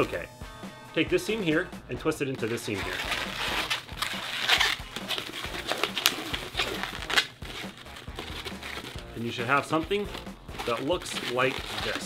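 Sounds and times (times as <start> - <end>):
balloons squeaking and rubbing: 2.3 - 12.0.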